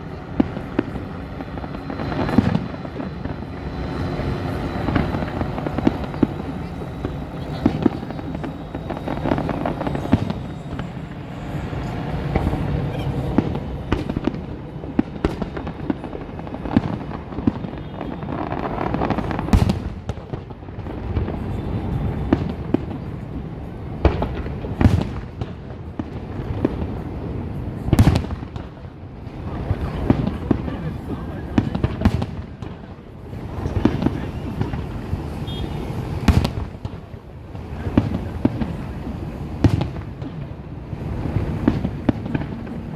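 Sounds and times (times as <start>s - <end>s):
firework booms: 0.0s - 23.1s, 24.0s - 27.0s, 27.9s - 30.8s, 31.5s - 42.9s
fireworks bursting and crackling: 0.0s - 42.9s.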